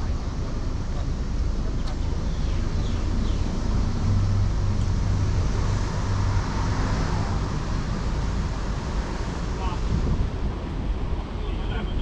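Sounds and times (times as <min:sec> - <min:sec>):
engine hum: 0:00.0 - 0:12.0
tyre and road noise: 0:00.0 - 0:12.0.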